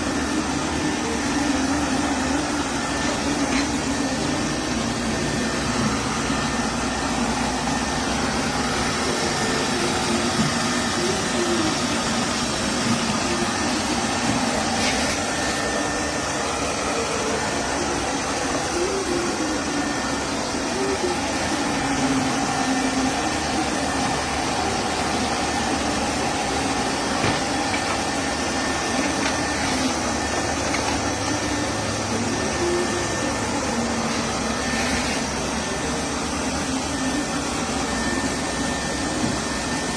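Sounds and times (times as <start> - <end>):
robot vacuum cleaner running: 0.0 - 39.9.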